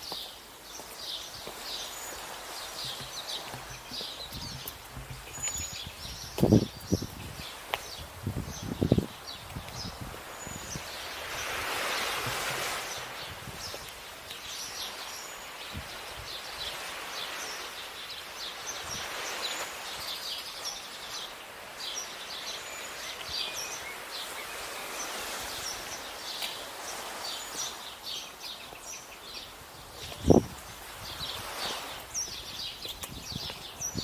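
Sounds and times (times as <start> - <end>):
outdoor ambient hiss: 0.0 - 34.0
small birds chirping: 0.0 - 34.0.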